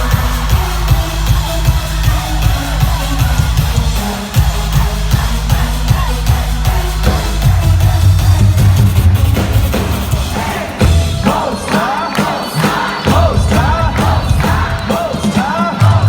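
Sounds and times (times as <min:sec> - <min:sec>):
live worship band music: 0:00.0 - 0:16.0
voices singing: 0:00.0 - 0:16.0.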